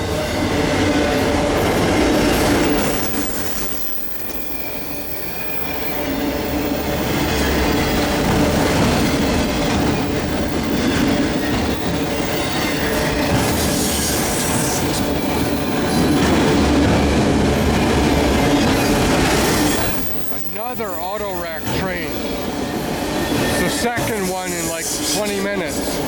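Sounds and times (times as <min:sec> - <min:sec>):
diesel locomotives passing: 0:00.0 - 0:26.0
freight cars rolling on steel wheels: 0:00.2 - 0:26.0.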